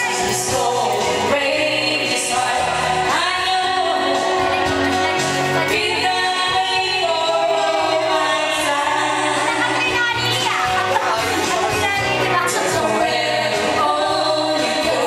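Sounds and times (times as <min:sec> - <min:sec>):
loud backing track: 0:00.0 - 0:15.0
woman singing into microphone: 0:00.0 - 0:15.0.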